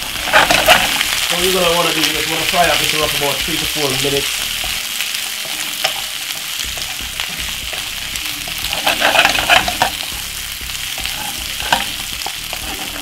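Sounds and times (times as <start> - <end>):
vegetables sizzling in oil: 0.0 - 13.0
wooden spoon stirring in pan: 0.0 - 13.0.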